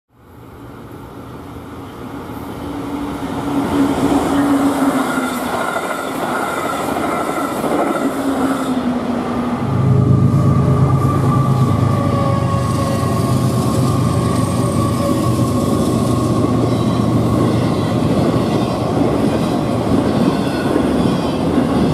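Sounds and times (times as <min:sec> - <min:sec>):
diesel locomotive drone: 0:00.1 - 0:21.9
passenger train passing at speed: 0:00.1 - 0:21.9.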